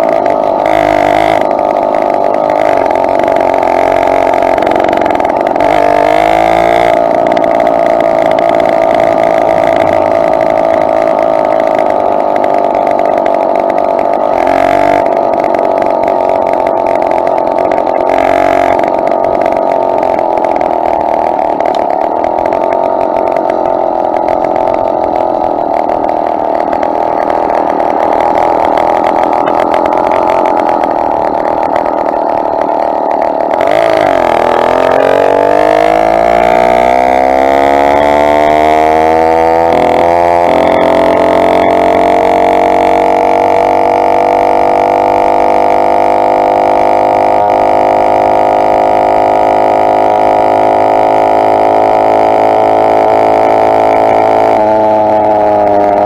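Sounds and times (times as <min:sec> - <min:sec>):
two-stroke engine running: 0:00.0 - 0:56.0.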